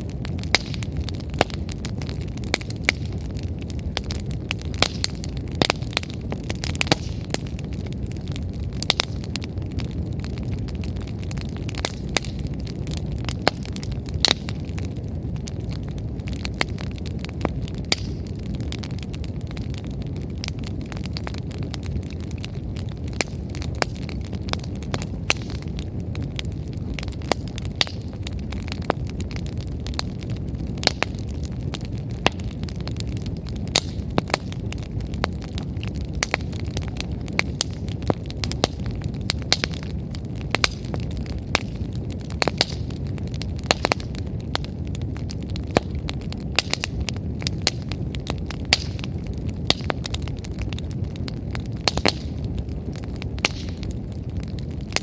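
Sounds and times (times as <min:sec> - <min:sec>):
firewood crackling and popping: 0:00.0 - 0:55.0
low rumble of flames: 0:00.0 - 0:55.0.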